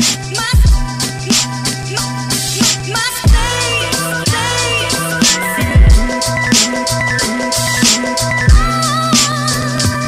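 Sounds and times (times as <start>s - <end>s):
held bass line: 0.0s - 10.0s
music with steady beat: 0.0s - 10.0s.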